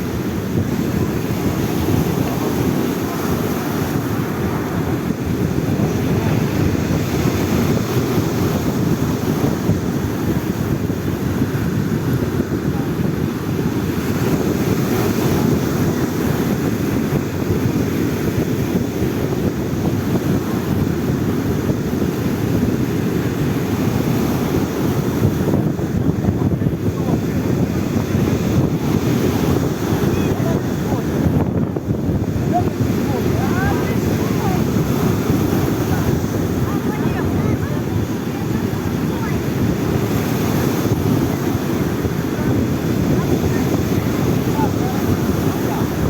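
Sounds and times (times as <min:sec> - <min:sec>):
stormy sea surf: 0:00.0 - 0:46.0
wind buffeting microphone: 0:00.0 - 0:46.0.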